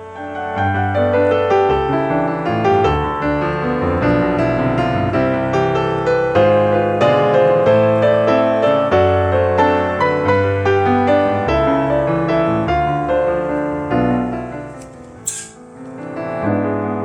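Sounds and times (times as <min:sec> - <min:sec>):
piano music with bass line: 0:00.0 - 0:17.0.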